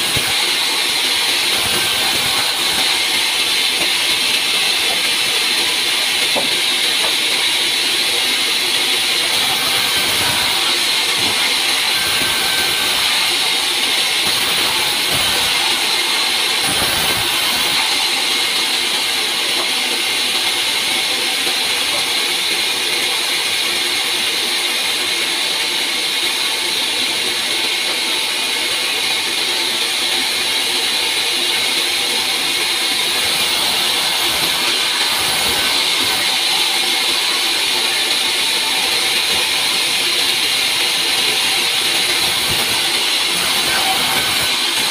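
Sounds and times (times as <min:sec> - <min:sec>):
band saw cutting logs: 0:00.0 - 0:44.9.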